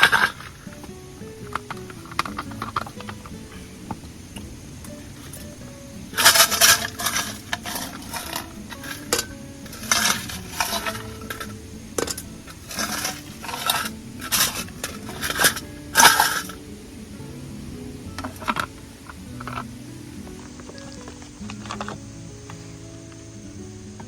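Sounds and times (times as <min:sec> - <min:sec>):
dishes and utensils clattering: 0:00.0 - 0:16.6, 0:18.1 - 0:22.0.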